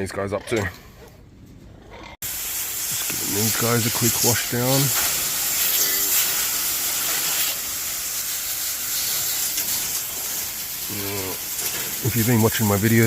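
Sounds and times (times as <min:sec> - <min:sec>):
garden hose spraying water: 0:02.2 - 0:13.0.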